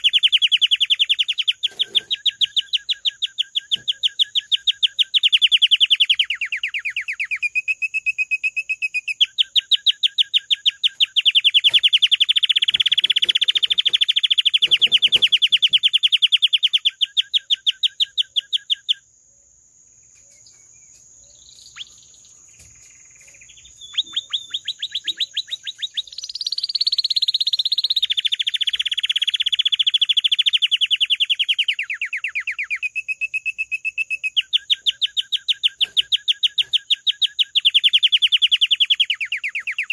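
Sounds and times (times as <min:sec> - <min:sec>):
canary singing trills: 0:00.0 - 0:19.1, 0:20.0 - 0:39.9
soft bird calls: 0:00.0 - 0:39.9.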